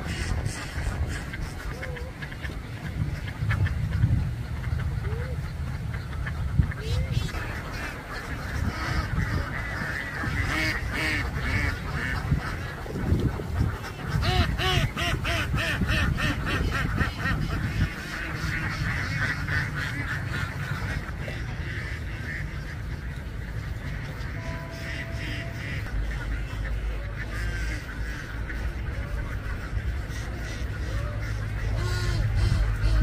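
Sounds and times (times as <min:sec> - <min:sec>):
ducks quacking: 0:00.0 - 0:33.0.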